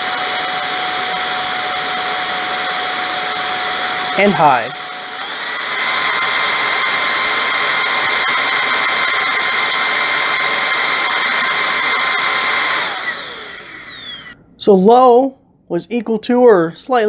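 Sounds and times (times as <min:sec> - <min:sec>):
stick vacuum motor whining: 0:00.0 - 0:14.4.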